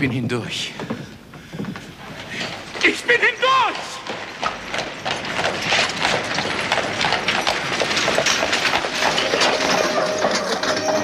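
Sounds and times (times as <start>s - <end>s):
wooden wagon clattering: 0.0s - 11.0s.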